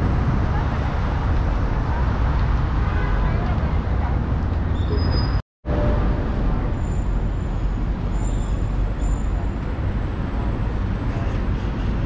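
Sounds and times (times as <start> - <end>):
rumble of passing cars: 0.0 - 12.0.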